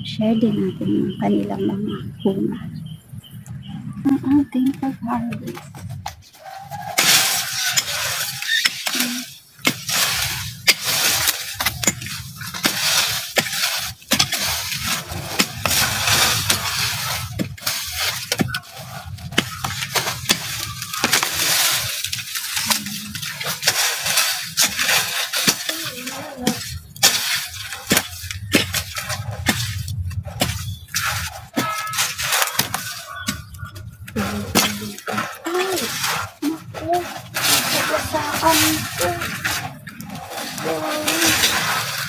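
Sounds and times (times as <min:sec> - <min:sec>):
hand tool digging into soil: 0:05.1 - 0:42.0.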